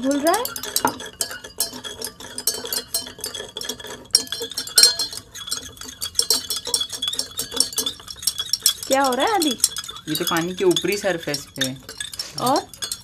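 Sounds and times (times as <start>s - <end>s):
stirrers clinking against glass: 0.0s - 13.0s.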